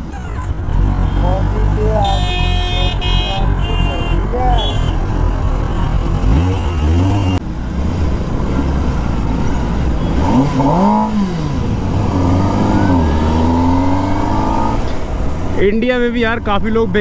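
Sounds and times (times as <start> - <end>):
motorcycle engine revving: 0.6 - 17.0.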